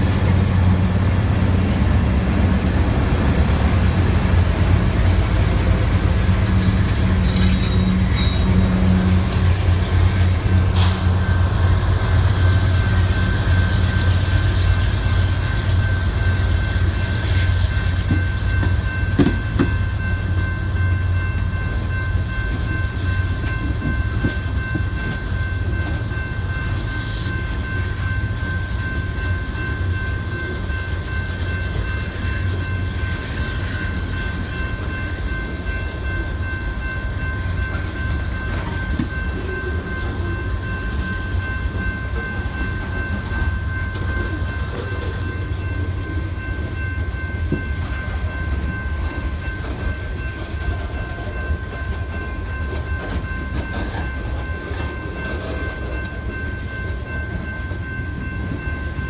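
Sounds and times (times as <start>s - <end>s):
freight train rolling past: 0.0s - 59.0s
wheels rumbling on rail: 0.0s - 59.0s.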